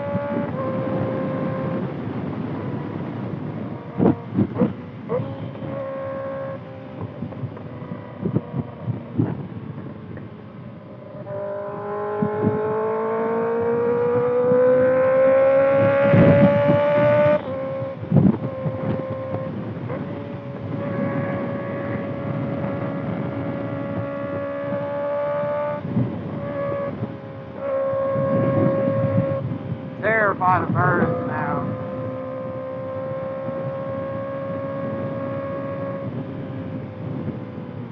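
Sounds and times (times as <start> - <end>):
motorcycle engine accelerating: 0.0 - 37.9
wind rumble: 0.0 - 37.9.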